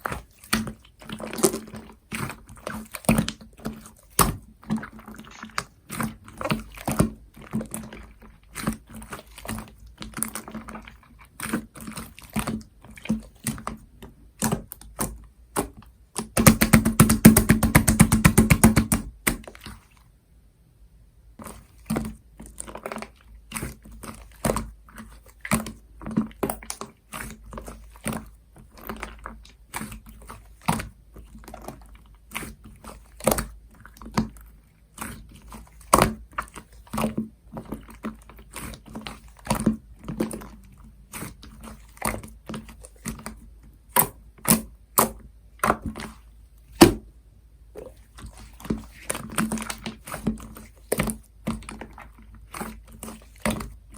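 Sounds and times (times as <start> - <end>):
slime squished by hand: 0.0 - 20.1, 21.4 - 47.1, 47.7 - 53.9.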